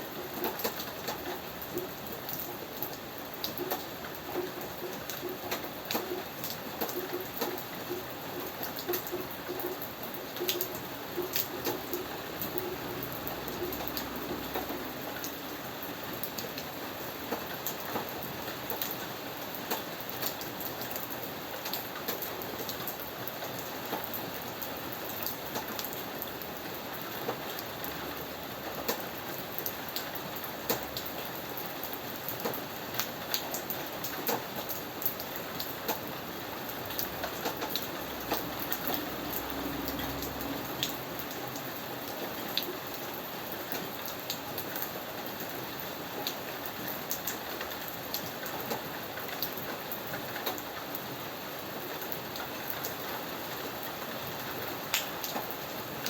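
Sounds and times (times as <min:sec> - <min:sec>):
rain drops ticking on hard surface: 0:00.0 - 0:56.0.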